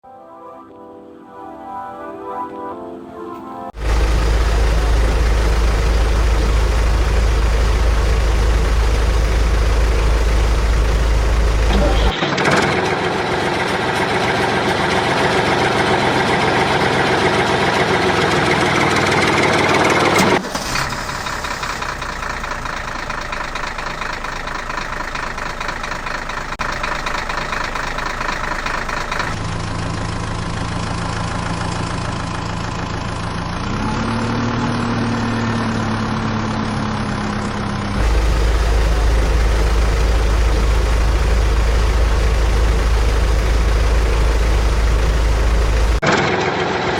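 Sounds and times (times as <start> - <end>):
diesel engine revving: 3.8 - 46.9
heavy diesel engine running: 3.8 - 46.9.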